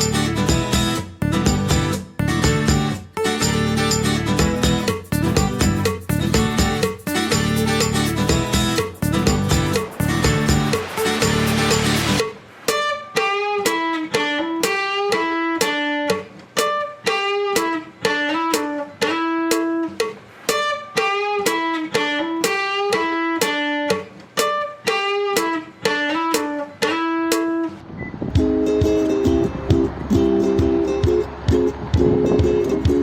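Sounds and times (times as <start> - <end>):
solo plucked-string melody: 0.0 - 33.0.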